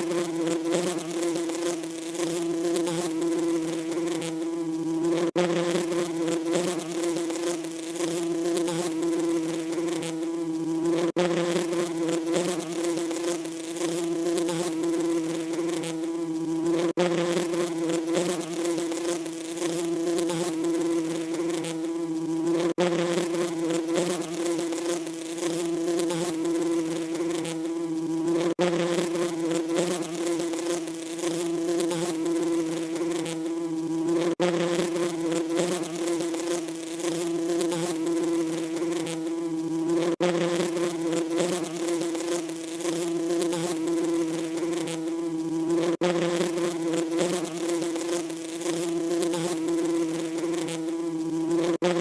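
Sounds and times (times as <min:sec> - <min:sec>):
bee buzzing: 0:00.0 - 0:52.0.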